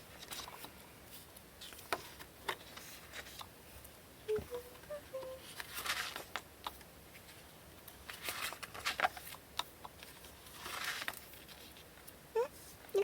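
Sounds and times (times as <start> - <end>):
paper cards rustling: 0.0 - 3.5, 4.4 - 13.0.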